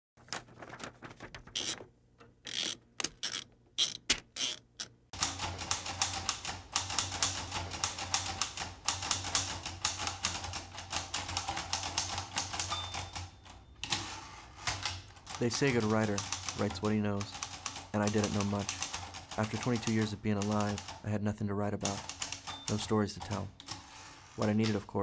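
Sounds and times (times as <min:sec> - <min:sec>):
typewriter keys clacking: 0:02.5 - 0:21.1, 0:21.7 - 0:25.0.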